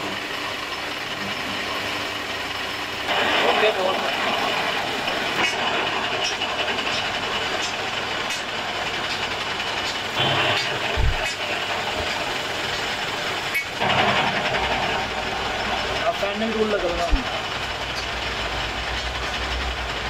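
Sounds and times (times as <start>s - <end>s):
metal lathe running: 0.0s - 20.0s.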